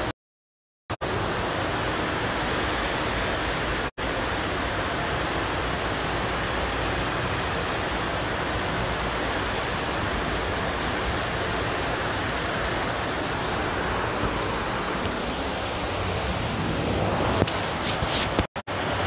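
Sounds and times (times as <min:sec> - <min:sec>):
pouring rain hiss: 0:01.0 - 0:19.0.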